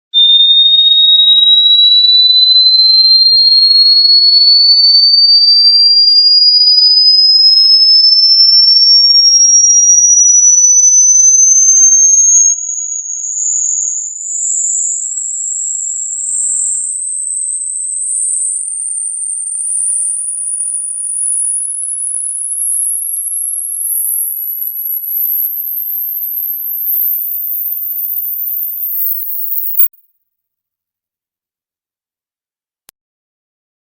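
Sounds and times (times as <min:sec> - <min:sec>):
sine tone sweeping upward: 0:00.2 - 0:29.9.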